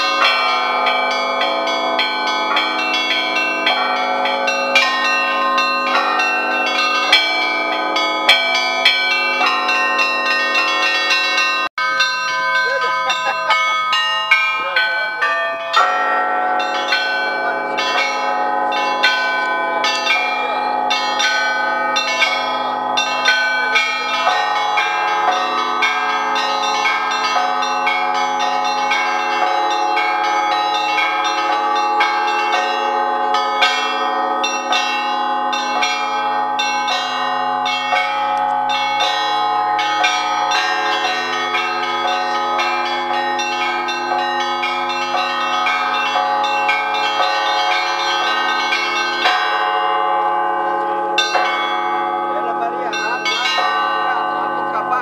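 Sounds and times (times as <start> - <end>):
large bells ringing: 0.0 - 55.0
small bells pealing rapidly: 0.0 - 55.0.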